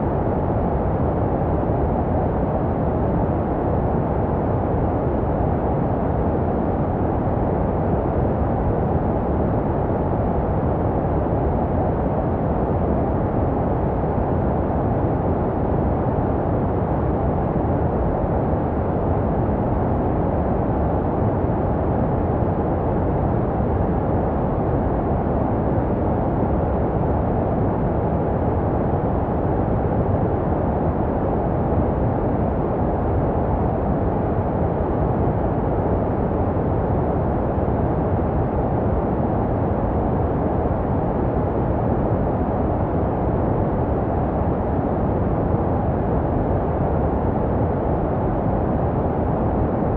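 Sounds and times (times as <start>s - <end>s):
muffled white noise: 0.0s - 49.9s.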